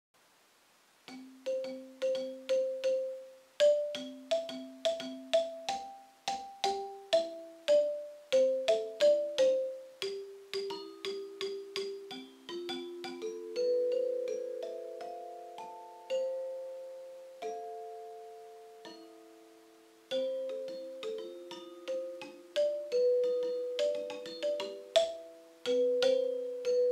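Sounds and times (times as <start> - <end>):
metallophone notes ringing: 1.1 - 19.4, 20.1 - 26.9.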